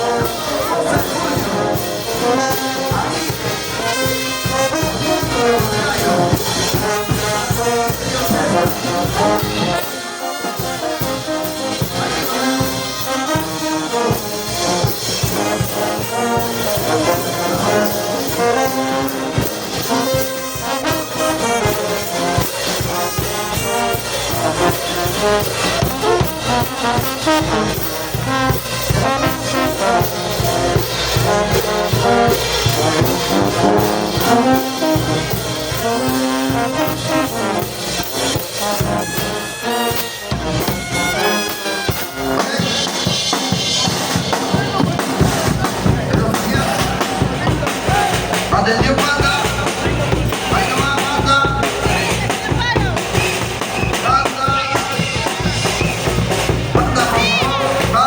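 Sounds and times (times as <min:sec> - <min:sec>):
brass band playing: 0:00.0 - 0:58.0
drum beat: 0:00.0 - 0:58.0.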